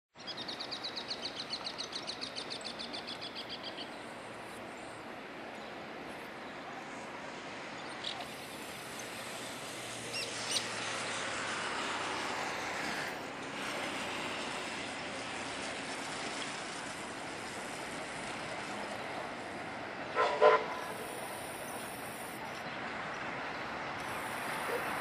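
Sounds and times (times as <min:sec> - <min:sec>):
outdoor background noise: 0:00.1 - 0:25.0
distant steam locomotive working hard: 0:01.0 - 0:25.0.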